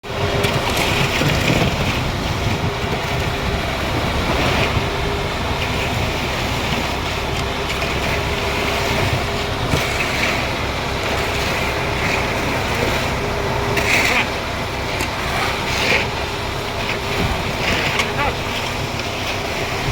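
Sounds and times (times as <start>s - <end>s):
concrete mixer running: 0.0s - 19.9s.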